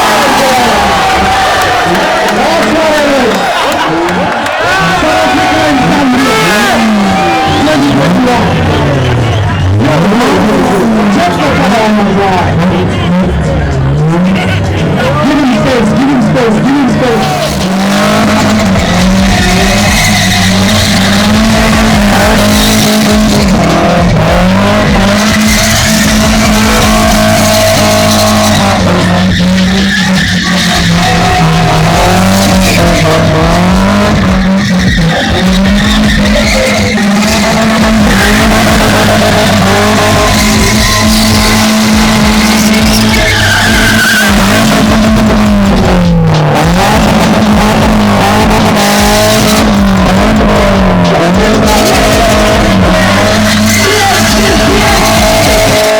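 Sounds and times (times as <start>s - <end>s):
engine revving high: 0.0s - 55.9s
tyres skidding: 0.0s - 55.9s.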